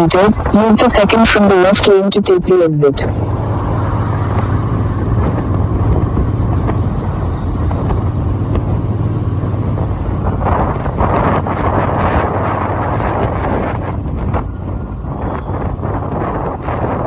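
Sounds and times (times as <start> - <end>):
wind buffeting microphone: 0.0 - 2.0, 3.0 - 17.0
motorcycle engine drone: 0.0 - 17.0
road and wind noise: 0.0 - 17.0.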